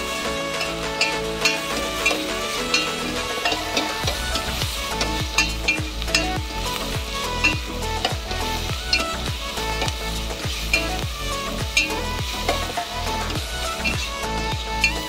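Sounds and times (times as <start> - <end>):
background music with steady beat: 0.0 - 15.0
onions sizzling in hot oil: 0.0 - 15.0.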